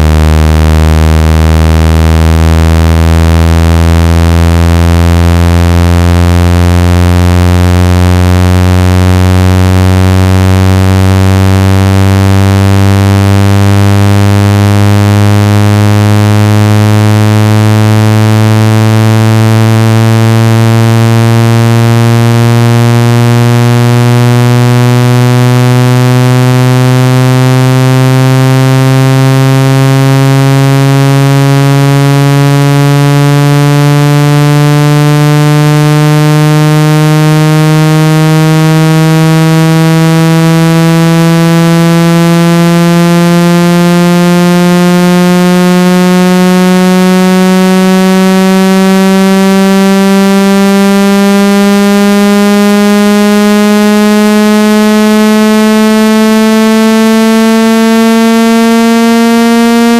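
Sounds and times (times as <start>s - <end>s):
rising synthetic buzzing tone: 0.0s - 59.9s.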